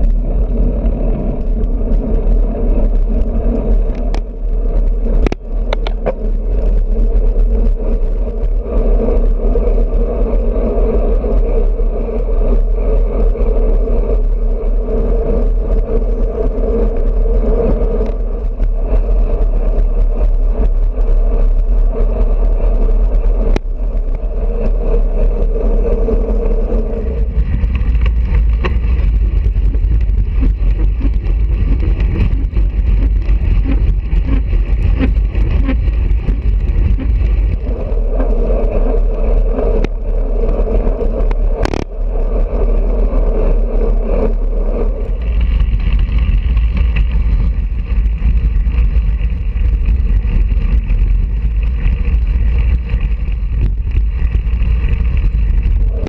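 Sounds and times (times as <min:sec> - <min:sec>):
mid-pitched hum: 0:00.0 - 0:56.0
wind rushing over microphone: 0:00.0 - 0:56.0.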